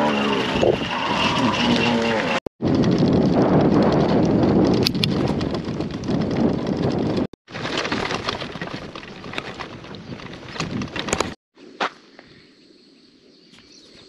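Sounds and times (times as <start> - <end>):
bicycle tyres on dirt track: 0.0 - 11.4
bike rattling over bumps: 0.0 - 11.4
wind buffeting microphone: 0.0 - 11.4.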